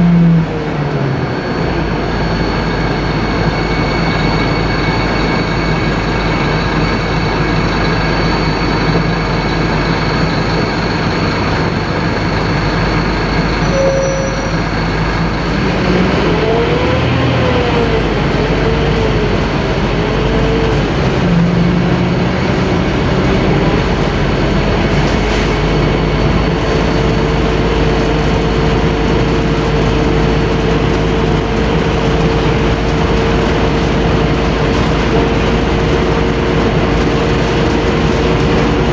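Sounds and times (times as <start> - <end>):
bus engine running loudly: 0.0 - 38.9
road noise: 0.0 - 38.9
wavering whine: 0.0 - 38.9
whine rising in pitch: 0.0 - 38.9.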